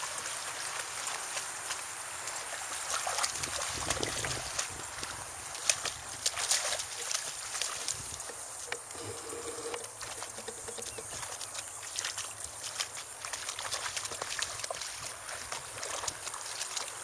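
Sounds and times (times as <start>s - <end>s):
puppies splashing through water: 0.0s - 17.0s.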